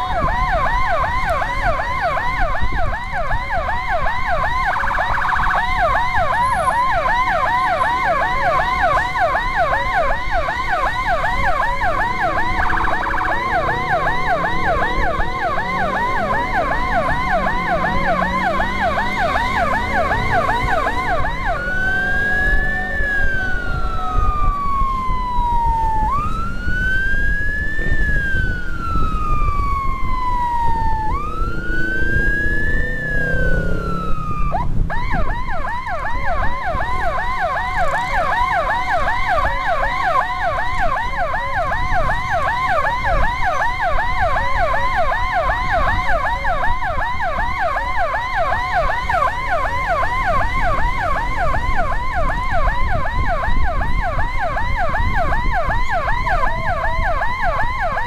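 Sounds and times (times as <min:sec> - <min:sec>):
electronic siren yelp and wail: 0:00.0 - 0:58.0
motorcycle road and wind rumble: 0:00.0 - 0:58.0.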